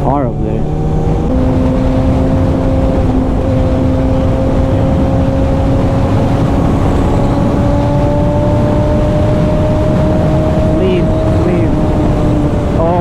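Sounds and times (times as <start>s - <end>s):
motorcycle engine at speed: 0.0s - 13.0s
wind noise rushing: 0.6s - 13.0s.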